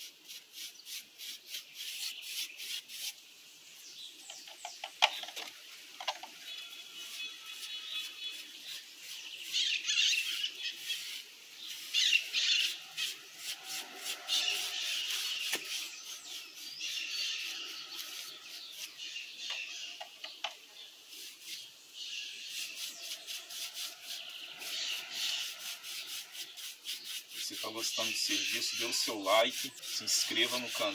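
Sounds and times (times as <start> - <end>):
paintbrush scrubbing rough surface: 0.0 - 3.2, 6.5 - 19.4, 21.1 - 30.9.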